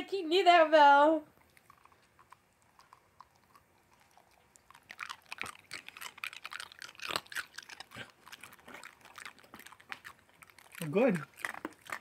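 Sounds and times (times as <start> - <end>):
dog chewing and crunching: 1.3 - 12.0.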